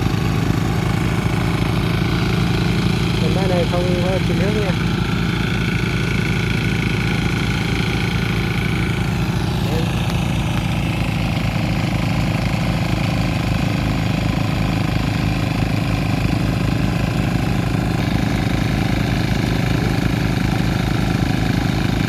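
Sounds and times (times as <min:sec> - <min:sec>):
tiller diesel engine running: 0:00.0 - 0:22.0.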